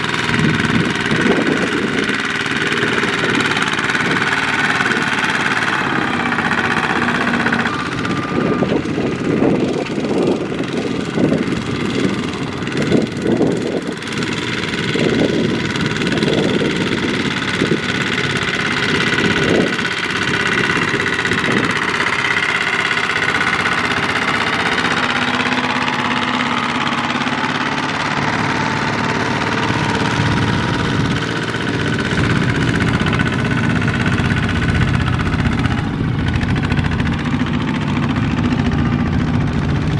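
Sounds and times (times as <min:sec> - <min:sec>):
diesel tractor engines under load: 0:00.0 - 0:39.9.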